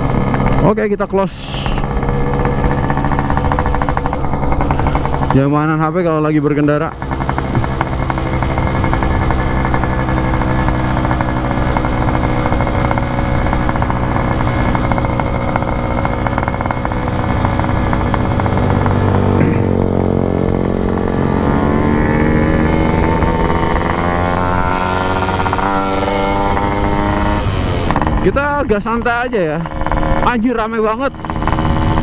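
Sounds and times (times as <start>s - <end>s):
motorcycle two-stroke engine running: 0.0s - 32.0s.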